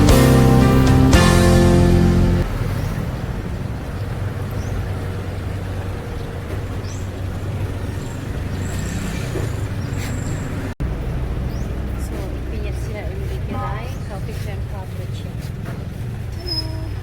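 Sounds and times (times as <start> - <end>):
vehicle engine and road traffic: 0.0 - 17.0.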